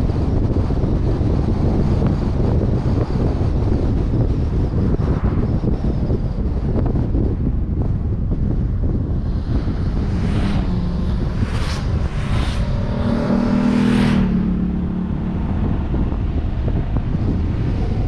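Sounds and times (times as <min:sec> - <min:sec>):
low rumble: 0:00.0 - 0:18.0
wind buffeting camera: 0:00.0 - 0:18.0
passing vehicle engine: 0:00.1 - 0:18.0.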